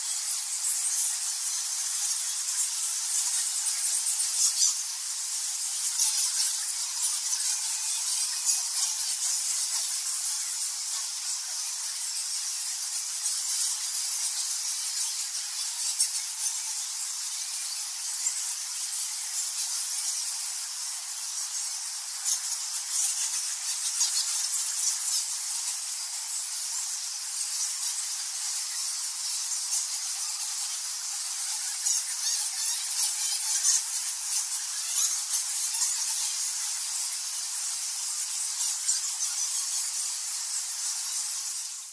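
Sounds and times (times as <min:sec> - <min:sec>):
bats chittering: 0:00.0 - 0:41.9.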